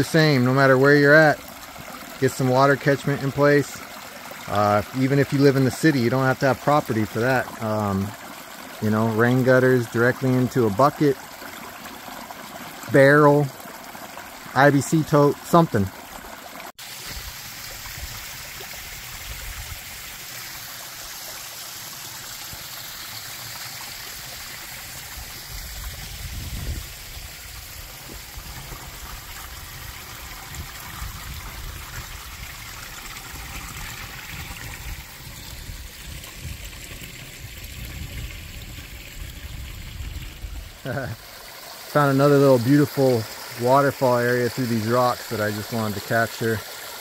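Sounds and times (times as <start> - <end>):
creek trickling over rocks: 0.0 - 47.0.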